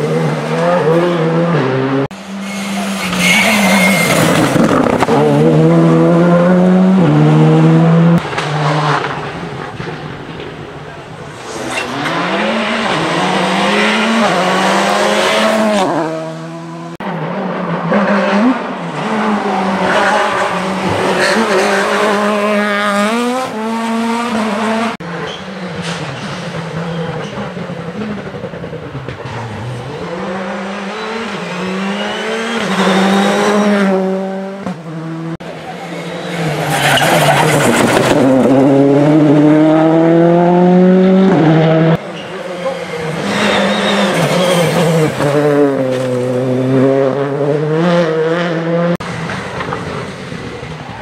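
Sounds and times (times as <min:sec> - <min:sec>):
rally car engine accelerating: 0:00.0 - 0:10.5, 0:11.3 - 0:51.0.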